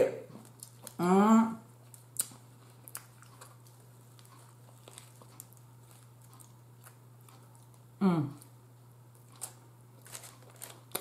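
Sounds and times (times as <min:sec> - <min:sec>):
steady low hum: 0:00.0 - 0:11.0
faint chewing: 0:00.2 - 0:01.0, 0:01.7 - 0:11.0.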